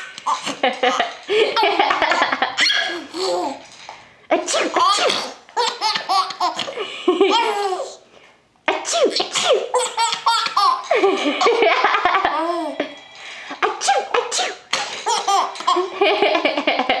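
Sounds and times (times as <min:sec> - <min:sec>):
baby laughing: 0:00.0 - 0:03.7, 0:04.4 - 0:08.0, 0:08.7 - 0:12.9, 0:13.6 - 0:17.0.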